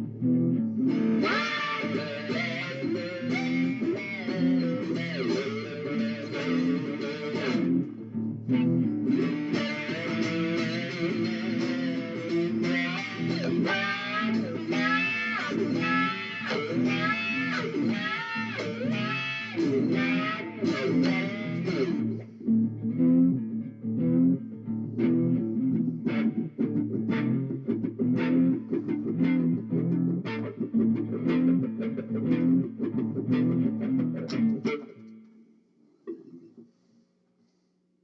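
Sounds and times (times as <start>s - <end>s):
guitar music: 0.0s - 35.5s.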